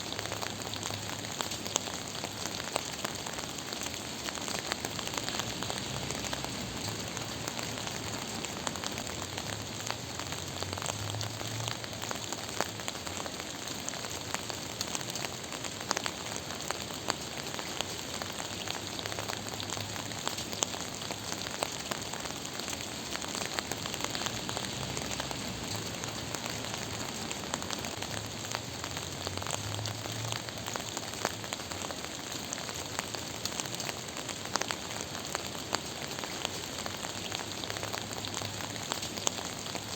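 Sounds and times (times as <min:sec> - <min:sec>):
gentle rain patter: 0:00.0 - 0:39.9.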